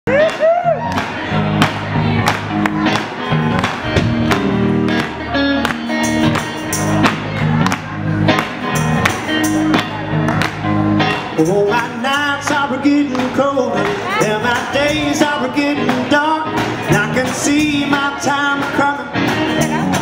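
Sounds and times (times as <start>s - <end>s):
rock band playing: 0.1s - 20.0s.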